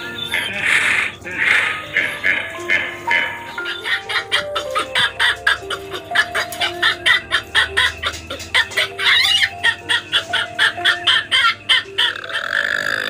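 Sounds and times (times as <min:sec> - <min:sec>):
background music simple melody: 0:00.0 - 0:13.0.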